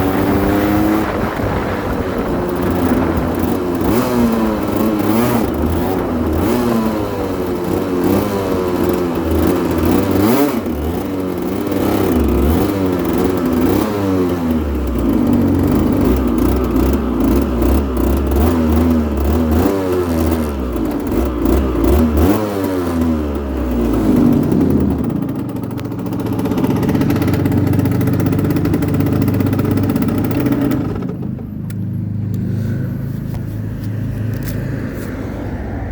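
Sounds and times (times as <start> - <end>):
two-stroke motorcycle engine revving: 0.0 - 35.2.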